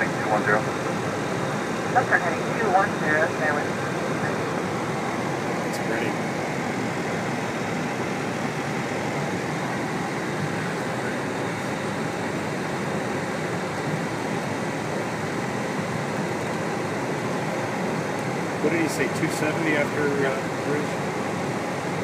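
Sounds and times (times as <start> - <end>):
airplane cabin engine and airflow rush: 0.0 - 22.0.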